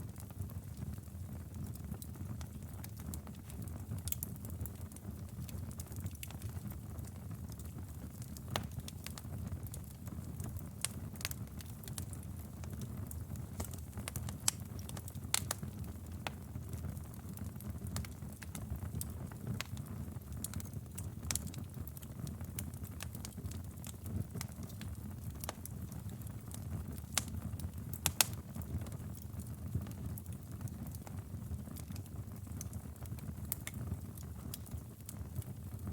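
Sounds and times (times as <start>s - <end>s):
low rumble of flames: 0.0s - 35.9s
wood fire popping and crackling: 0.0s - 35.9s.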